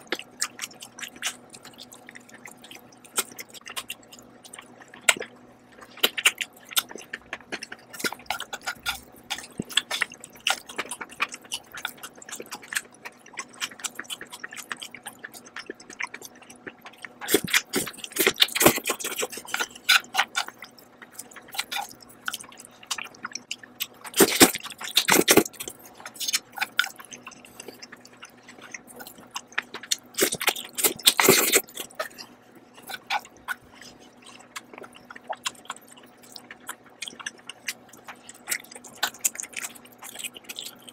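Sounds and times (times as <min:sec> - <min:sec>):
chewing noodles with wet clicks: 0:00.0 - 0:40.9.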